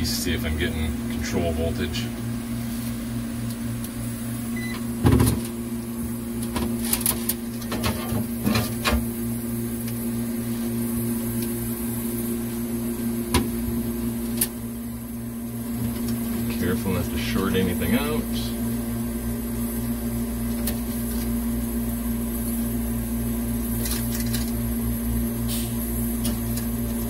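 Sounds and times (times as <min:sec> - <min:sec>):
freezer compressor humming: 0:00.0 - 0:27.0.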